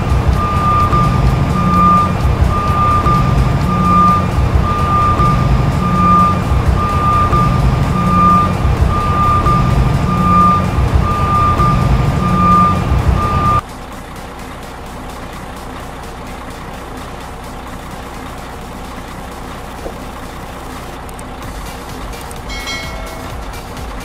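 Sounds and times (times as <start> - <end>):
truck engine rumble: 0.0 - 24.0
truck reversing alarm beeping: 0.0 - 24.0.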